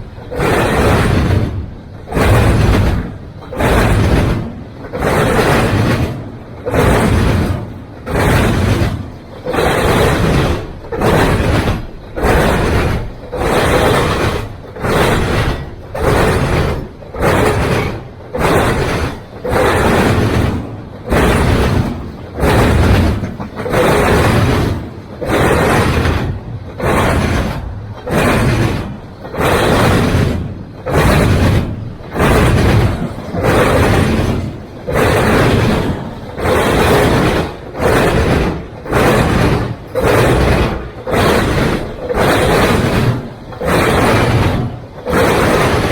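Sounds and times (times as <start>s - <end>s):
freight train cars passing: 0.0s - 45.9s.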